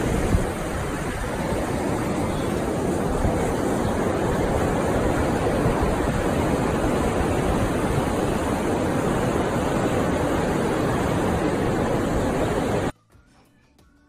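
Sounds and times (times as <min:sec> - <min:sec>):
surf breaking on beach: 0:00.0 - 0:12.9
wind buffeting microphone: 0:00.0 - 0:12.9.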